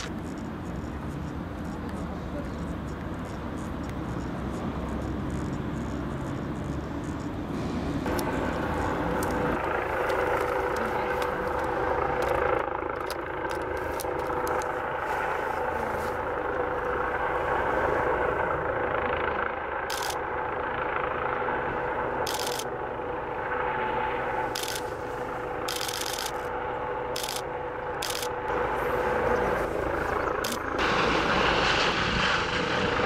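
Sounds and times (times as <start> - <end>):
helicopter rotor drone: 0.0 - 33.0.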